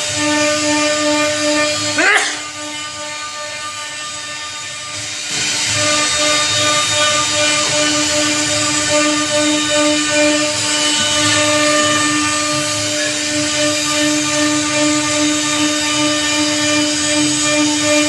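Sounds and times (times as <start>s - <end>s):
router spindle whining: 0.0s - 18.0s
bit cutting wood hiss: 1.4s - 16.9s.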